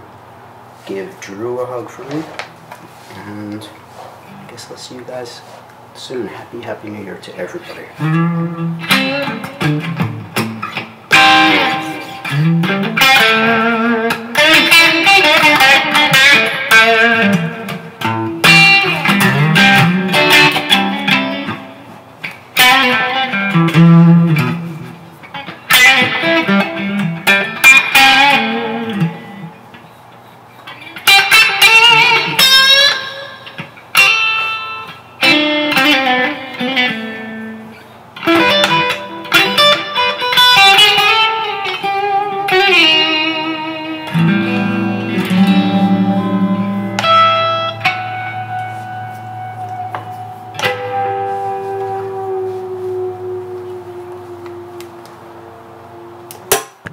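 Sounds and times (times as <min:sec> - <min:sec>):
electric guitar playing: 0:07.9 - 0:30.0, 0:30.6 - 0:56.9.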